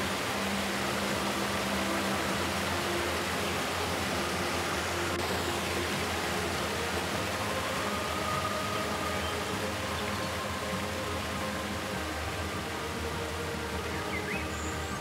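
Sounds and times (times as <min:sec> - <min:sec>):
faint steady tones: 0:00.0 - 0:15.0
waterfall rushing into a pool: 0:00.0 - 0:15.0.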